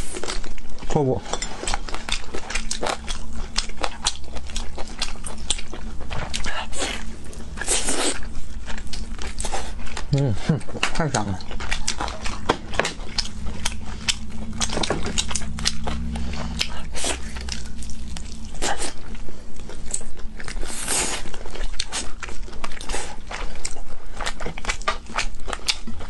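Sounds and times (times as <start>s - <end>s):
biting and chewing chicken wings: 0.0s - 26.0s.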